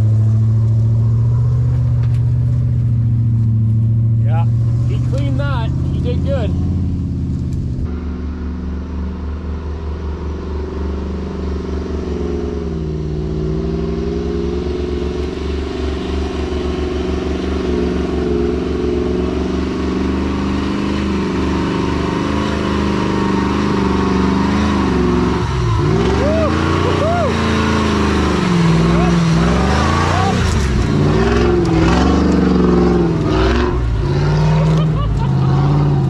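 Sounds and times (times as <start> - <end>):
engine running at low revs: 0.0 - 36.0.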